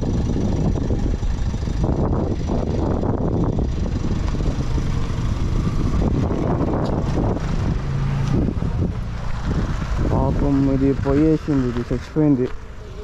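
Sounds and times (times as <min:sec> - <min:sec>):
car engine idling: 0:00.0 - 0:13.0
wind rumbling on microphone: 0:00.0 - 0:13.0.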